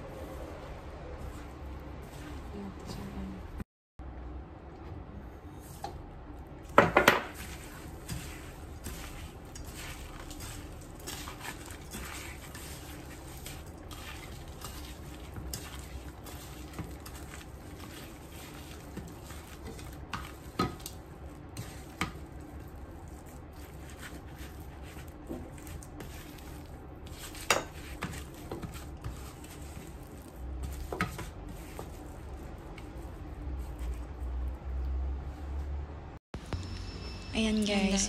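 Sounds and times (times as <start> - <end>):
hands tossing chicken in flour: 0.0 - 3.0, 6.7 - 35.4.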